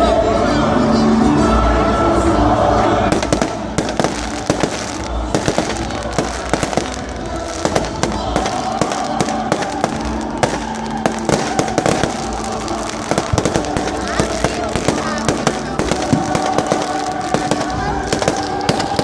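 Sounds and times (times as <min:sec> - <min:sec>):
firecrackers popping: 0:03.1 - 0:19.0.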